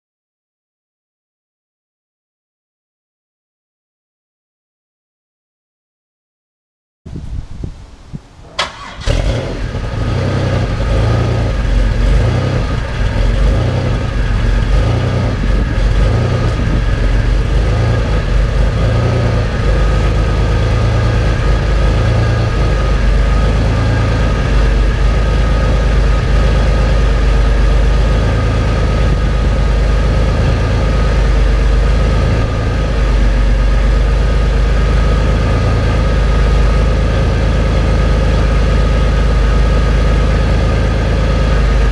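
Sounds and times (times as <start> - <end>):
car engine starting and idling: 7.8 - 41.9.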